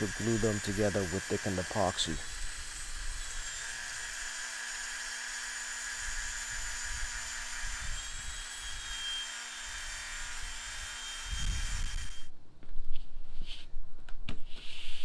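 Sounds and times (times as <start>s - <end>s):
circular saw cutting plywood: 0.0s - 12.3s.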